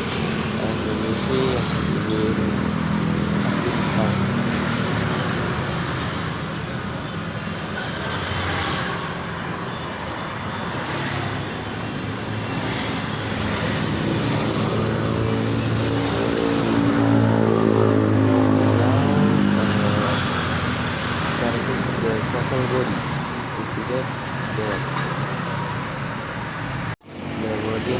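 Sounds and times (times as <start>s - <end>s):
steady background noise: 0.0s - 27.9s.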